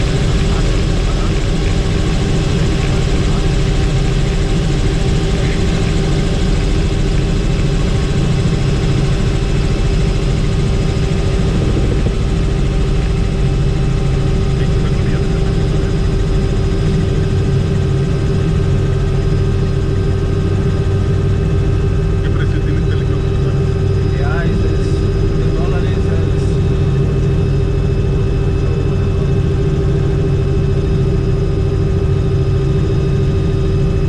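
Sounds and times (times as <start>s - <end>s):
constant whining tones: 0.0s - 34.0s
helicopter engine and rotor drone: 0.0s - 34.0s.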